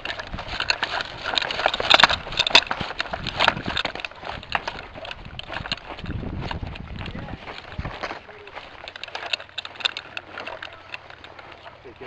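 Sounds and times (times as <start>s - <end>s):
footsteps crunching on dry brush: 0.0s - 12.0s.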